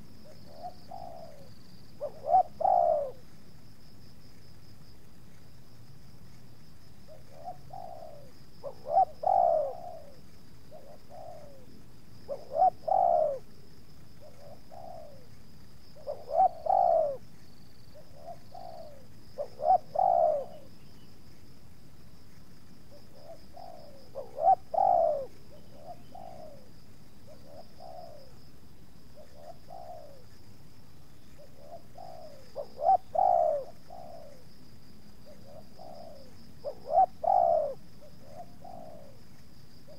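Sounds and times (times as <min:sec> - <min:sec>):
dove cooing: 0:00.0 - 0:03.4, 0:07.1 - 0:21.1, 0:22.9 - 0:28.4, 0:29.1 - 0:30.5, 0:31.2 - 0:34.5, 0:35.2 - 0:39.9.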